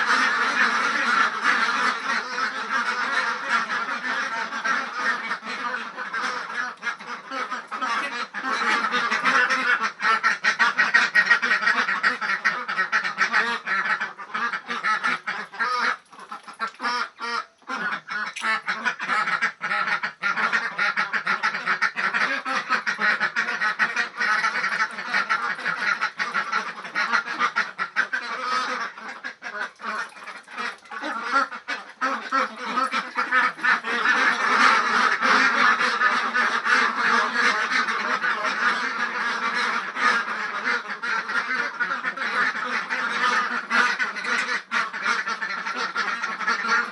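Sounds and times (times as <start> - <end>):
ducks quacking: 0.0 - 46.9.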